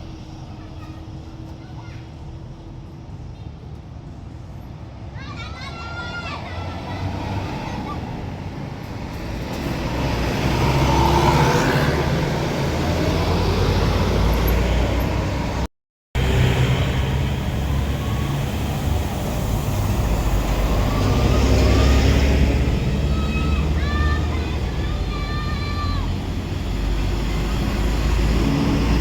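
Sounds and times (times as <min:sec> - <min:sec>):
diesel buses passing: 0:00.0 - 0:29.0.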